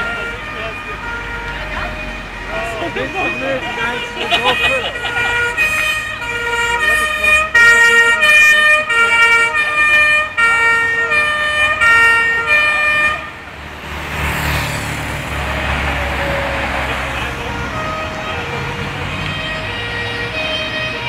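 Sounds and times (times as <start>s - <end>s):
fire engine two-tone horn: 0.0s - 13.4s, 15.4s - 21.0s
low rumble of engines: 0.0s - 21.0s
passing traffic: 0.0s - 21.0s.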